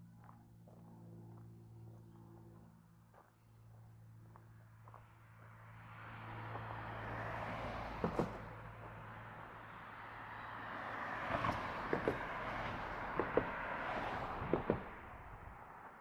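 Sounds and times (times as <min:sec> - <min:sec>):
cars passing: 0:00.5 - 0:16.0.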